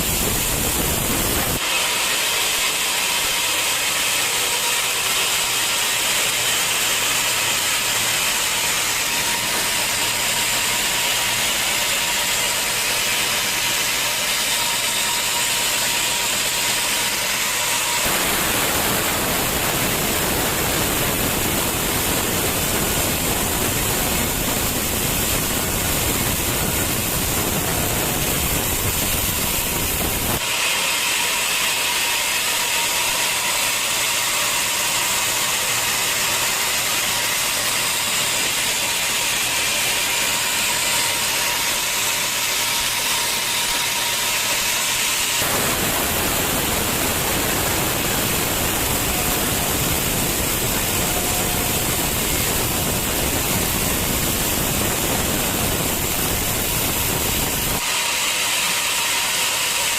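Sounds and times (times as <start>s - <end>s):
sawmill saw hissing whine: 0.0s - 59.9s.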